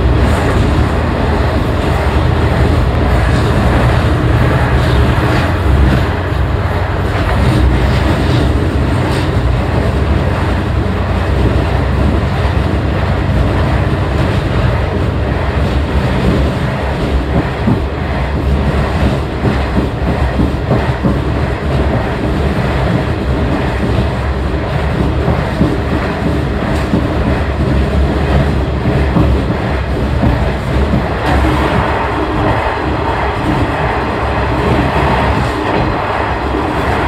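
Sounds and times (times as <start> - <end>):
railcar engine and wheels rumbling: 0.0 - 37.0.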